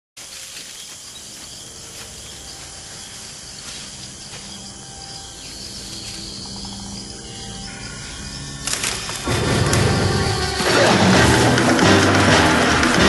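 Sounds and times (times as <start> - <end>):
insects chirping: 0.2 - 13.0.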